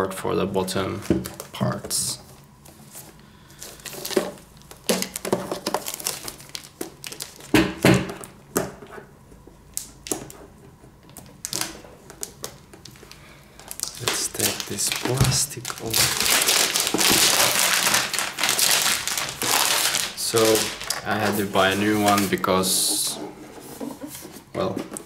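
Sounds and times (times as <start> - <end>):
plastic film crinkling: 1.0 - 8.3, 11.0 - 25.0.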